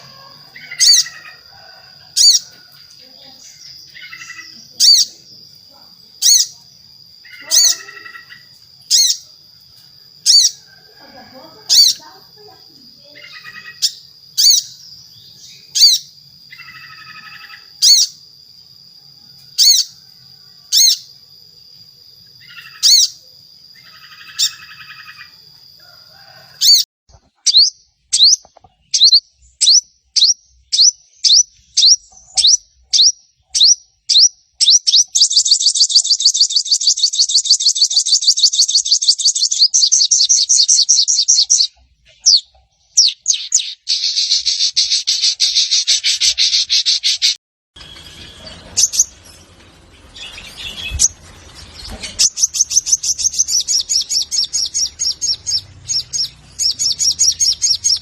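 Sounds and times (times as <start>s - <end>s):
bird calling: 0.0s - 5.4s, 7.2s - 9.4s, 10.2s - 18.2s, 22.4s - 25.4s, 27.4s - 58.0s
bird chattering trill: 0.0s - 5.6s, 6.2s - 9.4s, 10.2s - 10.7s, 11.5s - 18.2s, 19.6s - 20.0s, 20.7s - 21.2s, 22.4s - 25.4s, 27.4s - 49.4s, 50.1s - 58.0s.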